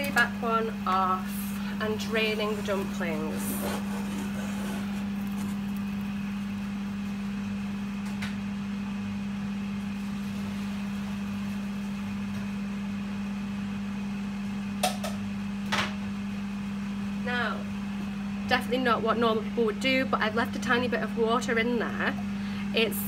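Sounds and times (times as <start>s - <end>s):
low electrical appliance hum: 0.0s - 23.0s.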